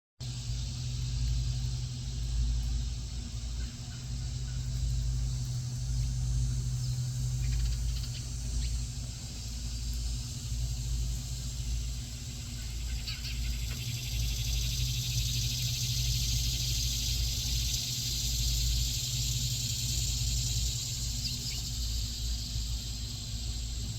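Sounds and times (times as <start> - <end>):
faint hum: 0.2 - 23.9.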